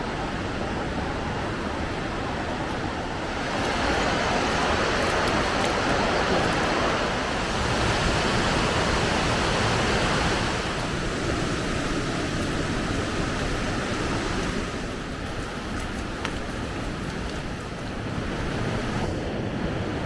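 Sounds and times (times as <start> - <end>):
rushing water of cascades: 0.0 - 19.2.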